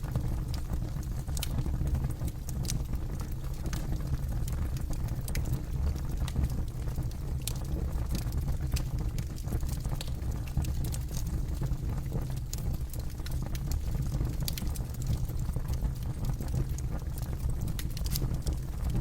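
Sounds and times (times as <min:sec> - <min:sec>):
burning wood crackling and popping: 0:00.0 - 0:19.0
low rumble of flames: 0:00.0 - 0:19.0.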